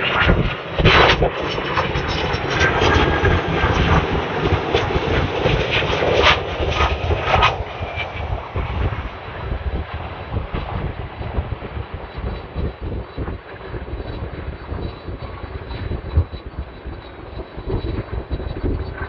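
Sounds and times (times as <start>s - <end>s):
distant jet engines: 0.0s - 19.0s
gusty low rumble: 0.0s - 19.0s.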